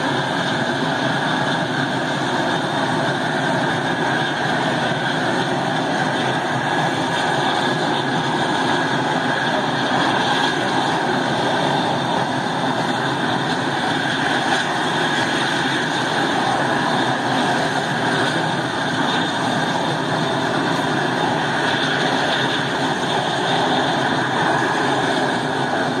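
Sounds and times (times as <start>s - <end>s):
propeller aircraft engine running: 0.0s - 26.0s.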